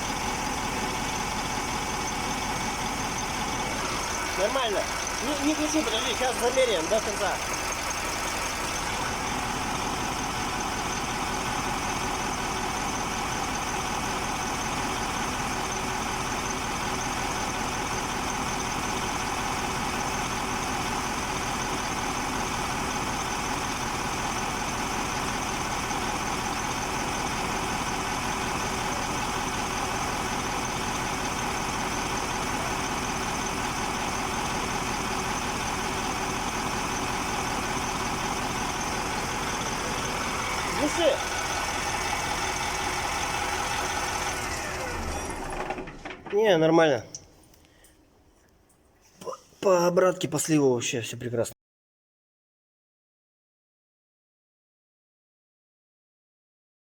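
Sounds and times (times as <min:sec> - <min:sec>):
diesel truck engine idling: 0:00.0 - 0:47.8.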